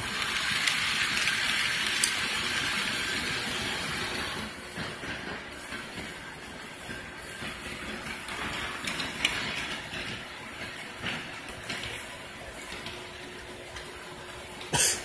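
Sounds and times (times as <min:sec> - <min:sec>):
model train wheels rattling: 0:00.0 - 0:14.0.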